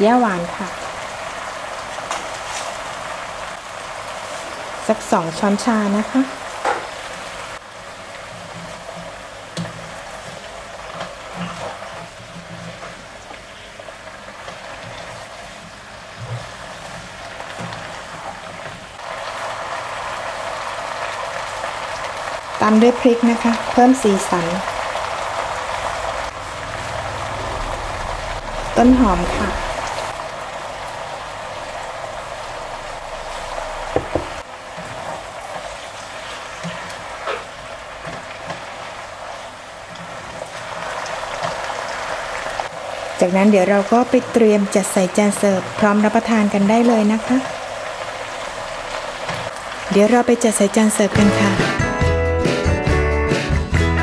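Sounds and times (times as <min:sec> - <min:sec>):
noodles sizzling in a frying pan: 0:00.0 - 0:52.8.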